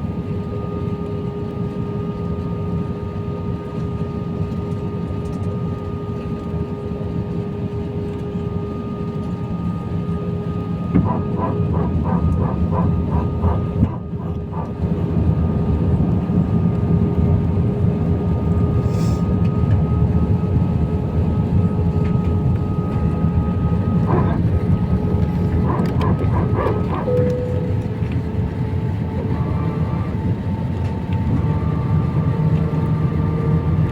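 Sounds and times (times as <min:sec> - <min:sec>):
airplane cabin engine rumble: 0:00.0 - 0:33.9.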